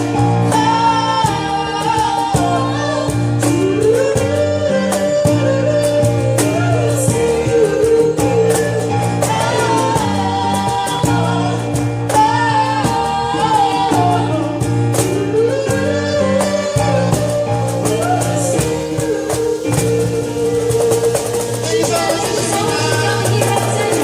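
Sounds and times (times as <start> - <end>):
band chords and bass: 0.0 - 24.0.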